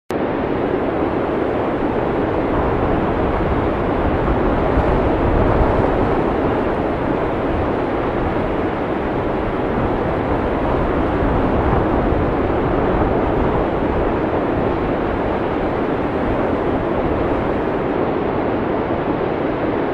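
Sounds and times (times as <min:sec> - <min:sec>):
blizzard wind rushing: 0:00.1 - 0:19.9.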